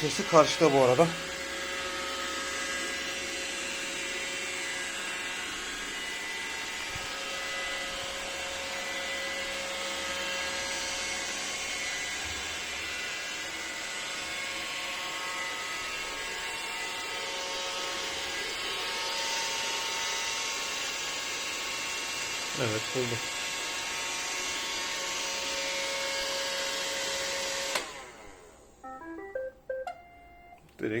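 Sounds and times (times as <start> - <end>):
robot vacuum motor whine: 0.0 - 28.8.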